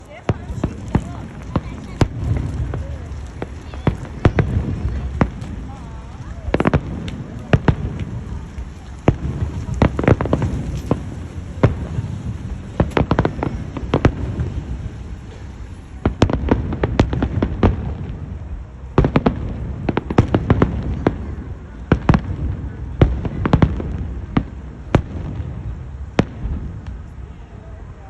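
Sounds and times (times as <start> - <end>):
fireworks bangs and crackling: 0.0 - 28.0
low rumble of booms: 0.2 - 27.3.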